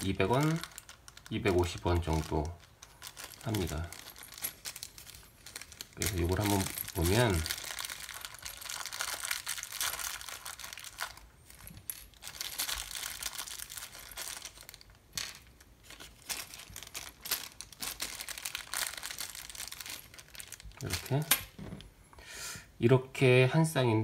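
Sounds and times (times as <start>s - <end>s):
plastic bag crinkling: 0.0s - 21.8s.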